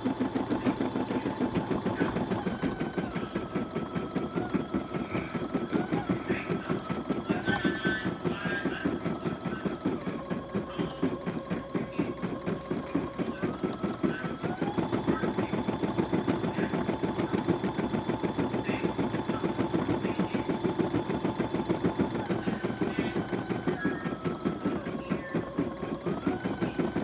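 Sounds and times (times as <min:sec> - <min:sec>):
embroidery machine needle chatter: 0:00.0 - 0:27.0.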